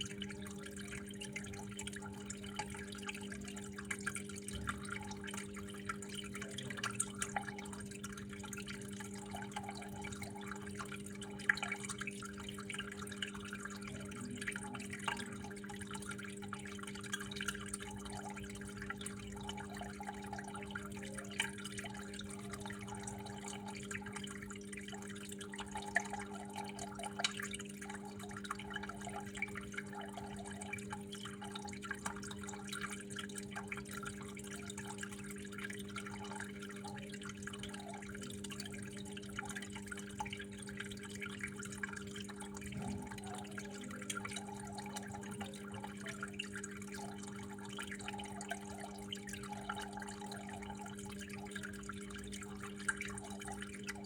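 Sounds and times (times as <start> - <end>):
small water splashes: 0.0 - 54.0
water trickling and dripping: 0.0 - 54.0.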